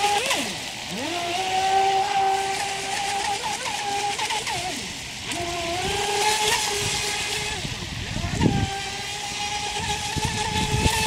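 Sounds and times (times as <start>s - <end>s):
electric boat motor whining: 0.0s - 11.0s
water spray hissing: 0.0s - 11.0s.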